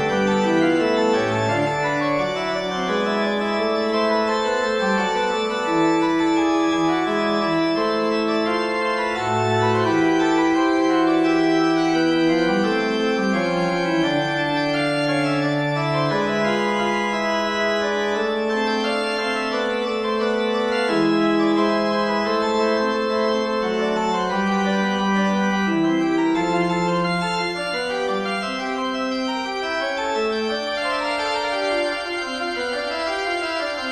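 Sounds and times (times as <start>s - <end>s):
organ playing slow chords: 0.0s - 33.9s.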